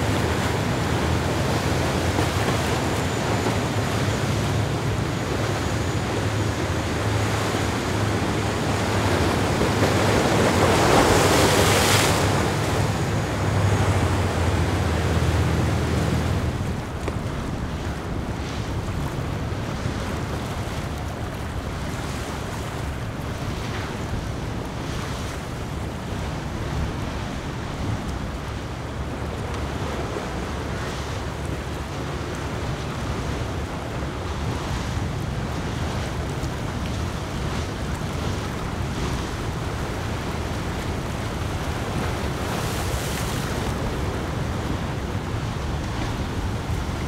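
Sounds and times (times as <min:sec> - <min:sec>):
water rushing against hull: 0:00.0 - 0:47.0
wind on microphone: 0:00.0 - 0:47.0.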